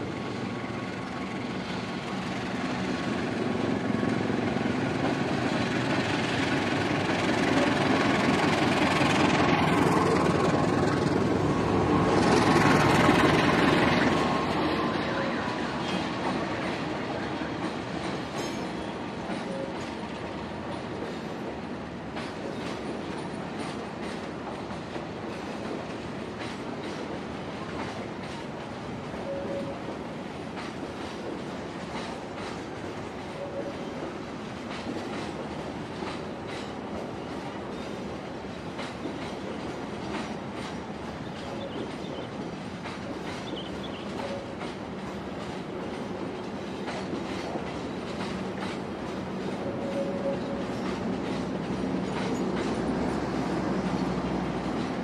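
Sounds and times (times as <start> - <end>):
diesel locomotive engine: 0.0 - 55.0
train coaches rumbling: 0.0 - 55.0
train wheels clicking: 0.2 - 55.0.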